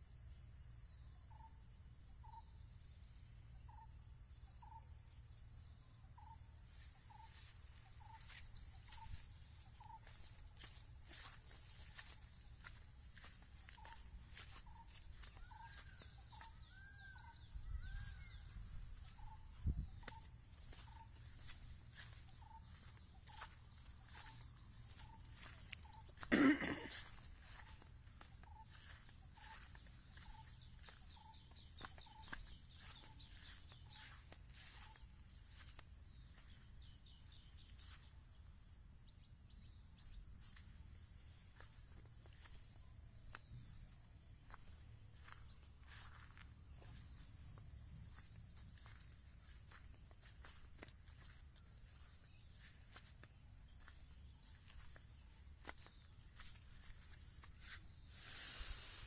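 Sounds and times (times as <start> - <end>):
insects chirping: 0.0 - 59.0
footsteps through grass: 6.8 - 38.2, 40.2 - 59.0.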